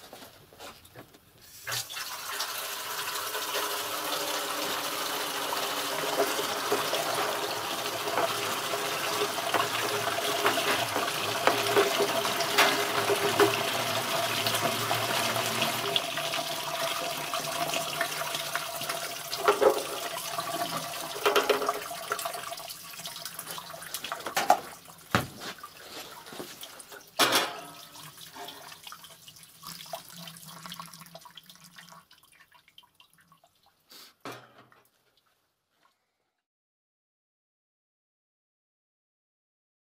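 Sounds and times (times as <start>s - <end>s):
water rushing from hose into tank: 1.5s - 33.8s.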